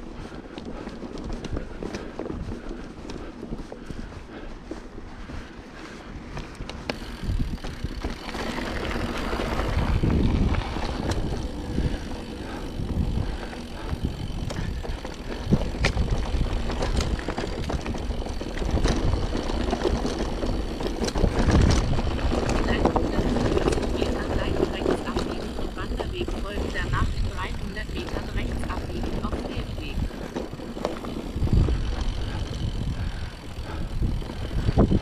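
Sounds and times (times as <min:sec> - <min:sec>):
bike clicks and rattles: 0:00.0 - 0:35.0
bike tyres rumbling on dirt: 0:00.0 - 0:35.0
wind on microphone: 0:06.6 - 0:35.0.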